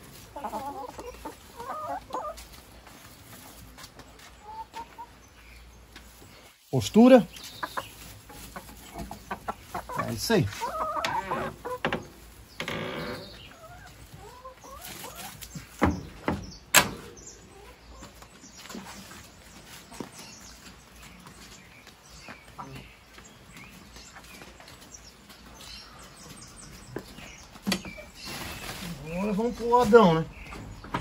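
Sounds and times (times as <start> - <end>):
faint farmyard sounds: 0.0 - 31.0
hens clucking: 0.0 - 31.0.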